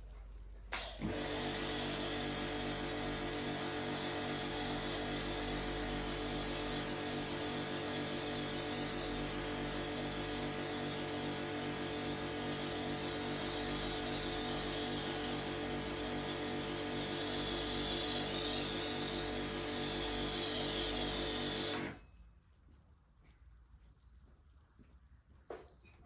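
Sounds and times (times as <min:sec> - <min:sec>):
pressure washer water spray hiss: 0:00.8 - 0:22.0.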